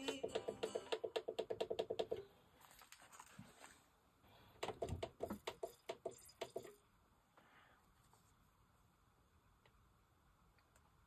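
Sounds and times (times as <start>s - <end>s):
faint music from headphones: 0.0s - 11.0s.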